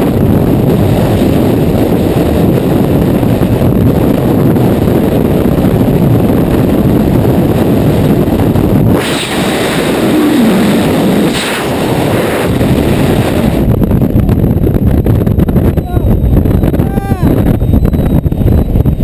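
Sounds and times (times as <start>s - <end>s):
freefall wind rushing: 0.0s - 19.0s.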